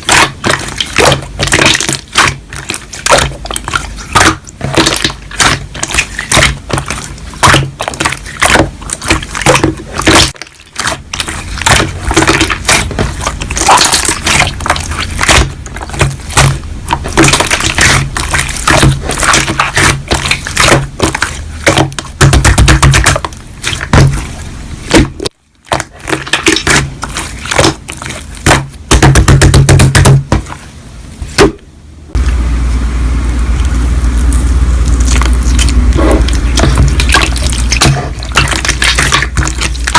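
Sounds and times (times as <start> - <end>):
slime crackling and popping: 0.0 - 30.6, 33.5 - 39.9
slime squishing: 0.0 - 39.9.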